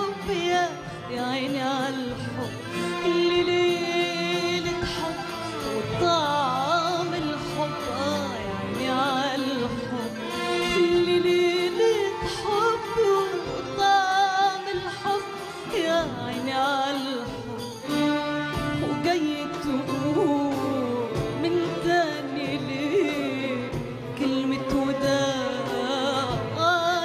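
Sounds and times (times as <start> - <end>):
orchestra with violins: 0.0 - 27.0
woman singing: 0.0 - 27.0.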